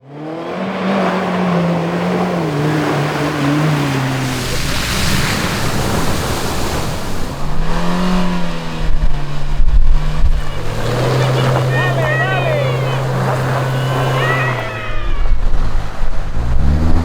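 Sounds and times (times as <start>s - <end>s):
off-road engine revving: 0.0s - 17.0s.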